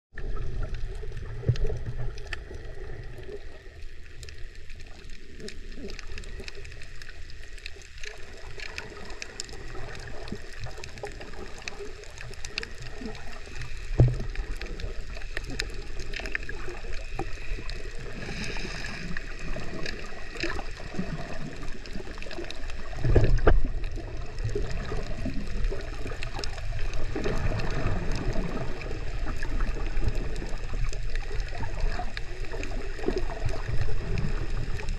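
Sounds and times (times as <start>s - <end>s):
muffled underwater water rumble: 0.1s - 34.9s
water gurgling and sloshing: 0.1s - 34.9s.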